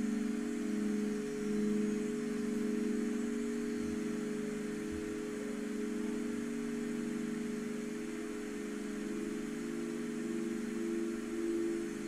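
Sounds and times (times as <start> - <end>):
singing bowls ringing drone: 0.0 - 12.0.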